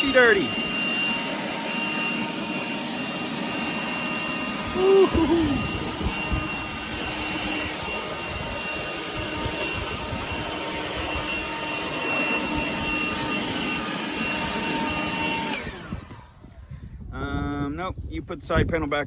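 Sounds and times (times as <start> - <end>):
leaf blower spinning down: 0.0 - 16.9
leaf blower whining: 0.0 - 17.0.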